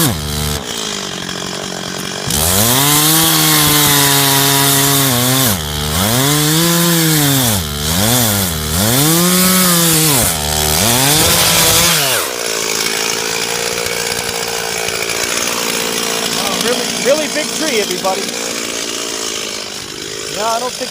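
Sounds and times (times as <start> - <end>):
chainsaw cutting tree trunk: 0.0 - 20.9.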